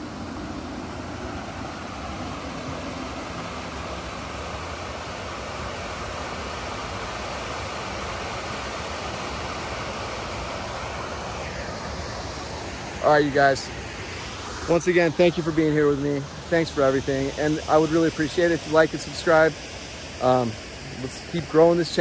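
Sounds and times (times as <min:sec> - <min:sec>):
creek water rushing over rocks: 0:00.0 - 0:22.0.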